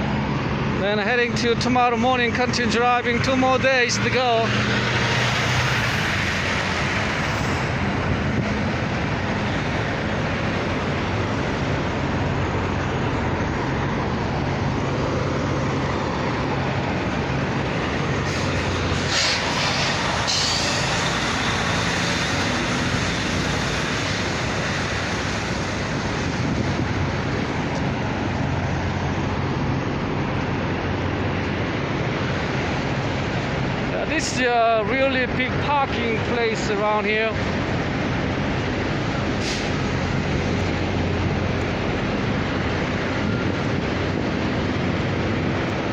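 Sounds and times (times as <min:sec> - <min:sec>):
diesel truck engines idling: 0:00.0 - 0:45.9
traffic noise: 0:00.0 - 0:45.9.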